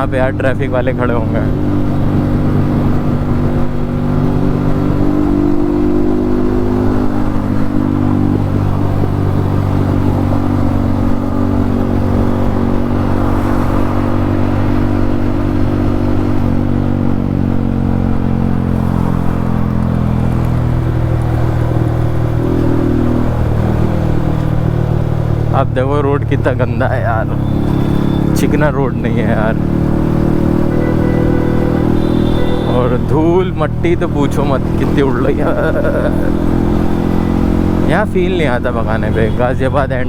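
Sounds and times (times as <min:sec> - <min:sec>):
motorcycle engine rising and falling: 0:00.0 - 0:40.0.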